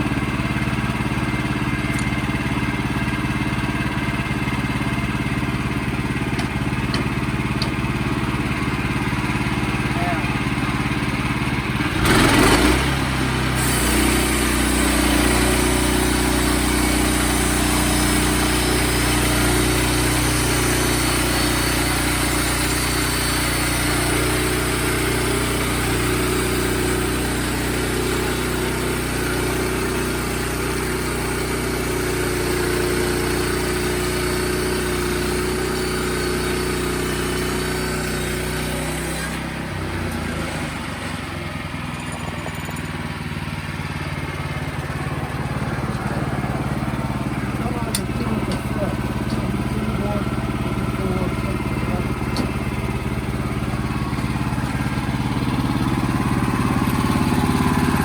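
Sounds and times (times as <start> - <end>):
band sawmill engine running: 0.0 - 58.0.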